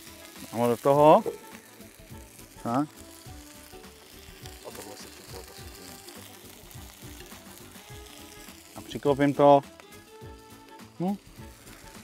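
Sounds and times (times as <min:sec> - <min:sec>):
food sizzling on a grill: 0:00.0 - 0:12.0
quiet background music: 0:00.0 - 0:12.0.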